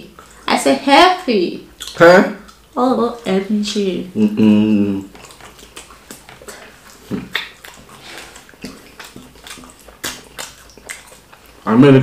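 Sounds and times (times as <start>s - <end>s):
wet smacking and chewing: 0.0s - 3.9s, 4.7s - 11.7s.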